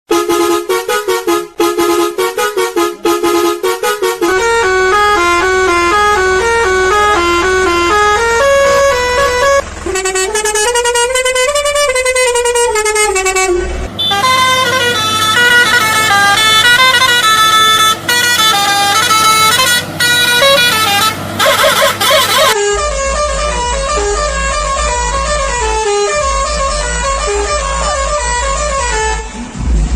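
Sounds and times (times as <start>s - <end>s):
musical truck horn: 0.1s - 29.8s.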